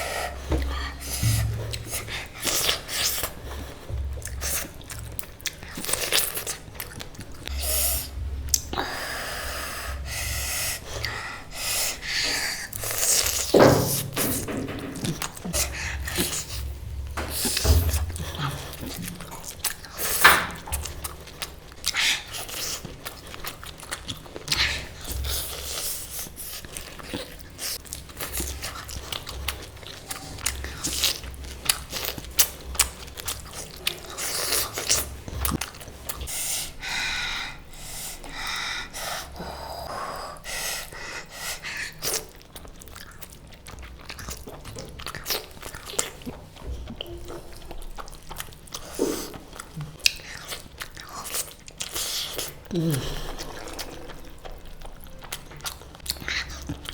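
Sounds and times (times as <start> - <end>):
person chewing food: 0.0 - 56.9.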